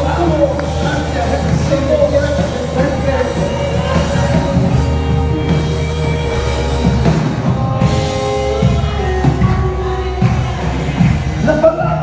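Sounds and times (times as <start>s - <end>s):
drum kit playing: 0.0s - 12.0s
sustained keyboard chords: 0.0s - 12.0s.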